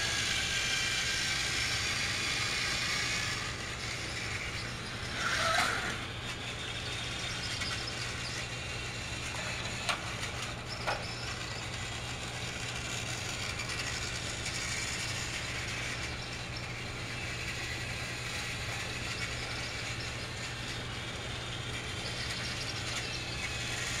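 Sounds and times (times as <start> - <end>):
toy train motors whirring: 0.0 - 24.0.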